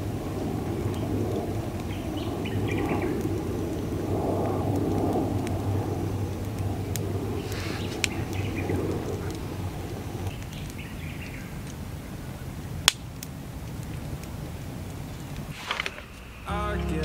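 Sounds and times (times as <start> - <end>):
flames rushing: 0.0 - 16.5
burning logs crackling: 0.0 - 17.0.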